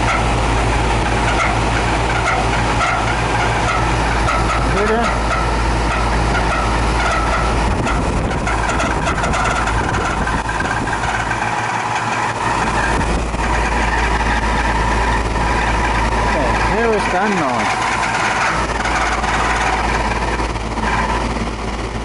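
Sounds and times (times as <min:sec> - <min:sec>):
fan motor hum and whine: 0:00.0 - 0:22.0.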